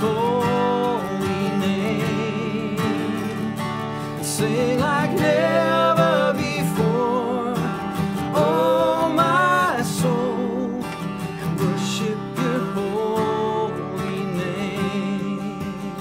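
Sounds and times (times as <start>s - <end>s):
acoustic guitar strumming: 0.0s - 16.0s
person singing slow melody: 0.0s - 16.0s.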